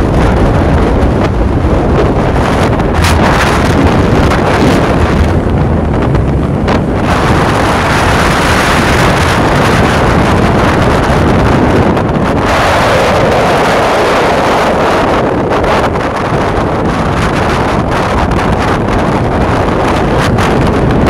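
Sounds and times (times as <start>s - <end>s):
low vehicle ride rumble: 0.0s - 21.0s
wind over microphone: 0.0s - 21.0s.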